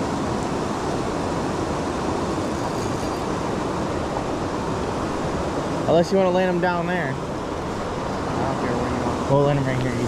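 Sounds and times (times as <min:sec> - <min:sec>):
stream water rushing: 0:00.0 - 0:10.0.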